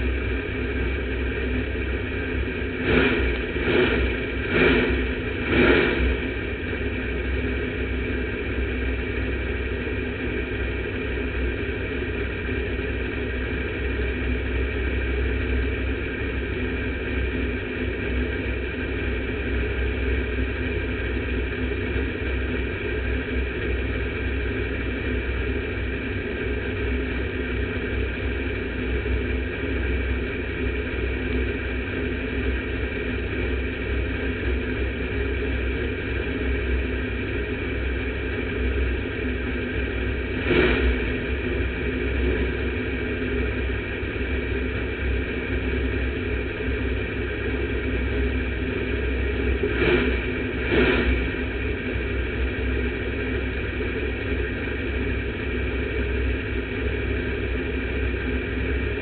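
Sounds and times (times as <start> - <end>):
race car engine idling: 0.0 - 59.0.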